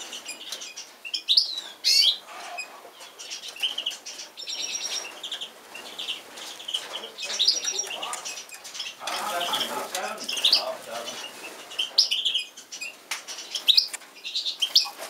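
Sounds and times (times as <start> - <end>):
magpies chirping: 0.0 - 15.0.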